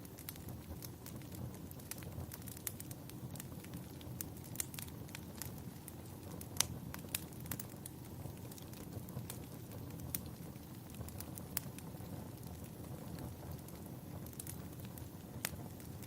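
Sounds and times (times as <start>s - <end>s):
low rumble of flames: 0.0s - 16.0s
wood fire popping and snapping: 0.0s - 16.0s.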